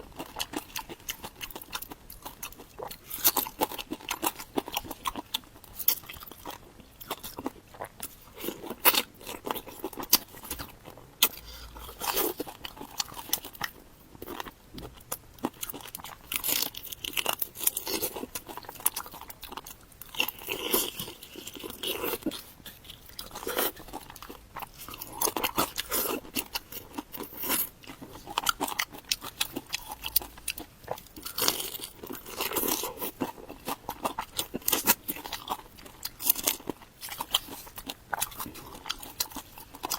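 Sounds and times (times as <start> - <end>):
crunchy food chewing: 0.0 - 39.9
wet chewing: 0.0 - 39.9.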